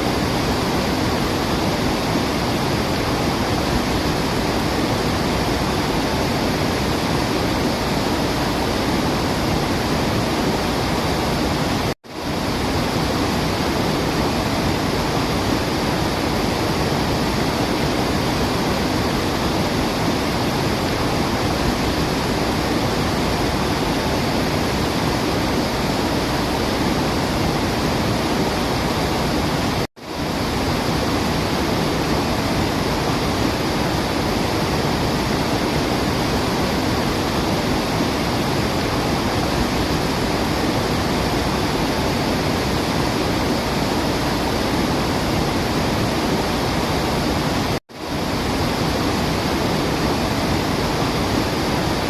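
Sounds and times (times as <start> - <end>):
falling water rushing: 0.0 - 52.0.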